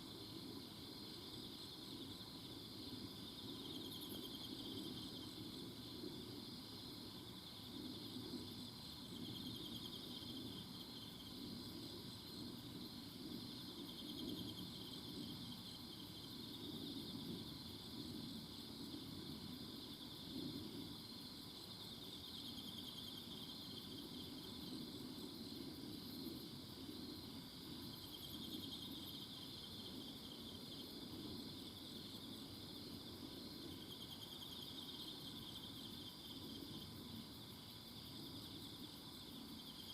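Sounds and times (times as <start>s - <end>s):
higher insect chirps: 0.0s - 39.9s
insects trilling: 0.0s - 39.9s.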